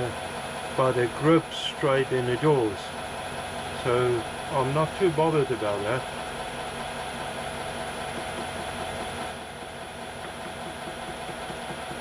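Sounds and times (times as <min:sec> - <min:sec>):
metal lathe motor hum: 0:00.0 - 0:12.0.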